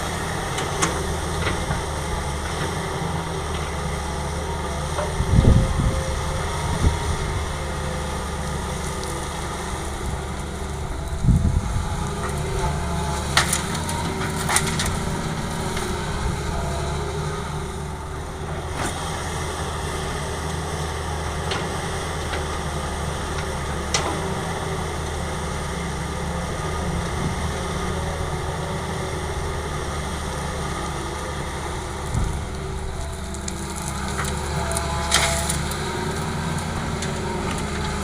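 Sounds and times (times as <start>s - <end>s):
diesel engines running: 0.0s - 38.0s.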